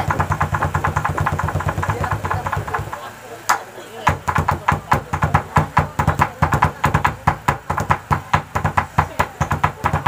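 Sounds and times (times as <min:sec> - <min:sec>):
fast percussion beat: 0:00.0 - 0:03.1, 0:04.0 - 0:10.0.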